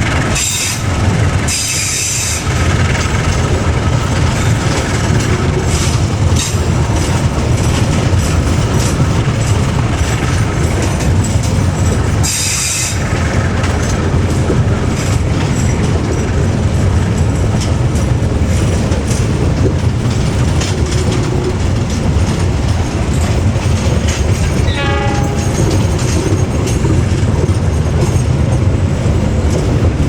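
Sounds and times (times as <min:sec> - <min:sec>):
train rumbling on rails: 0:00.0 - 0:30.0
wheels clacking over rail joints: 0:00.0 - 0:30.0.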